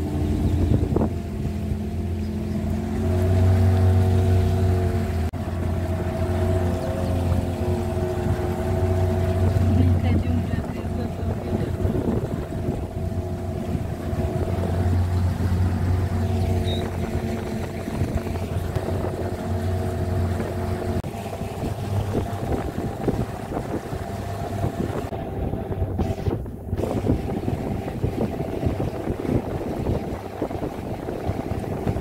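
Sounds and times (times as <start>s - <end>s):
motorboat engine droning: 0.0s - 32.0s
rushing water: 0.0s - 32.0s
wind on microphone: 0.0s - 32.0s.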